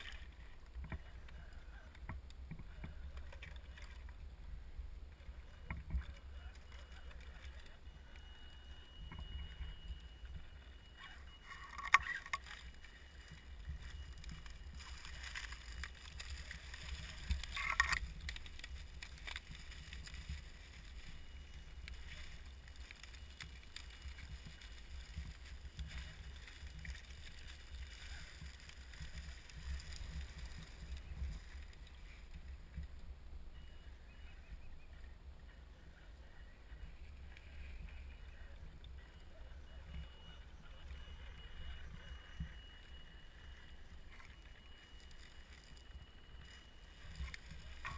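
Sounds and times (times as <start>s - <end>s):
toy car crunching over dry leaves: 0.0s - 4.2s, 5.2s - 47.9s.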